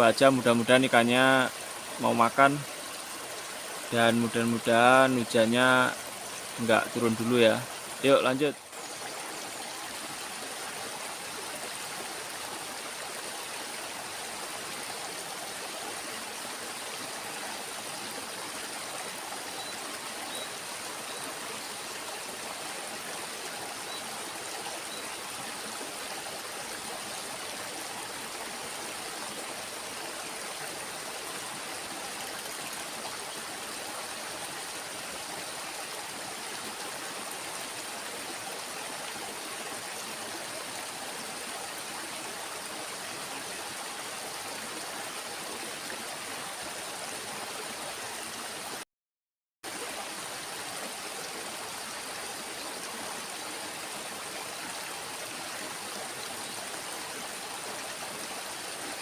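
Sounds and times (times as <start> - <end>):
river water flowing: 0.0 - 48.8, 49.6 - 59.0.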